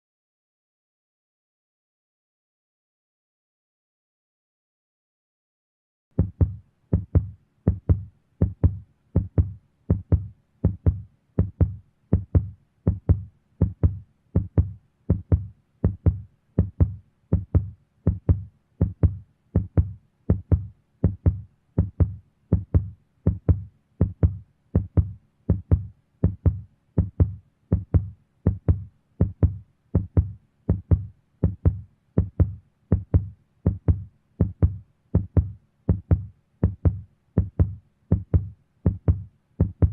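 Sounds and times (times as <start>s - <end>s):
heartbeat thumping: 6.2s - 39.9s.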